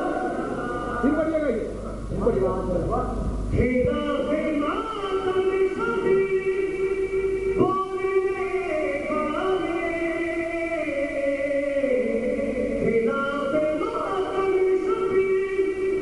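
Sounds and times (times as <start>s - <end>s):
man singing devotional song: 0.0s - 2.4s, 3.5s - 16.0s.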